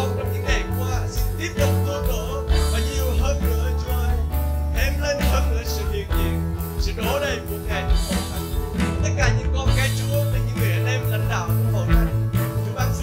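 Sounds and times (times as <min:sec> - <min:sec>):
slow worship song: 0:00.0 - 0:13.0.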